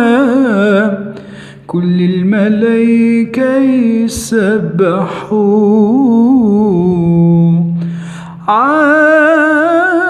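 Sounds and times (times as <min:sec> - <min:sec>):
man singing a hymn: 0:00.0 - 0:10.0.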